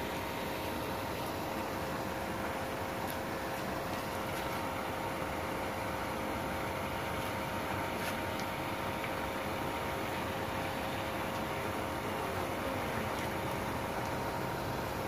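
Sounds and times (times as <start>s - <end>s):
paddlewheel aerator humming: 0.0s - 15.0s.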